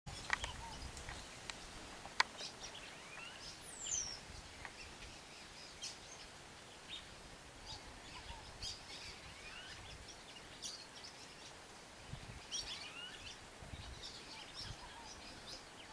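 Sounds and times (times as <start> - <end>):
birds chirping: 0.1 - 15.9.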